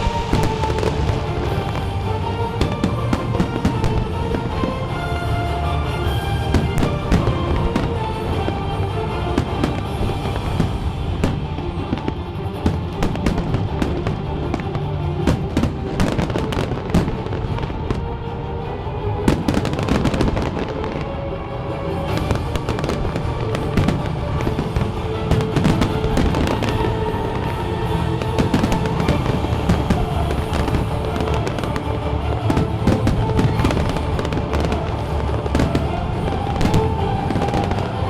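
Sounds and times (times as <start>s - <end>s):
fireworks bangs and crackling: 0.0s - 18.2s, 19.2s - 21.2s, 22.0s - 38.0s
music playing: 0.0s - 38.0s.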